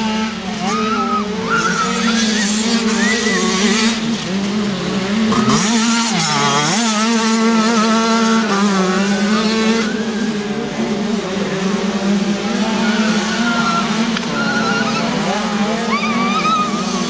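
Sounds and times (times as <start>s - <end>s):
two-stroke engine high revs: 0.0s - 17.0s.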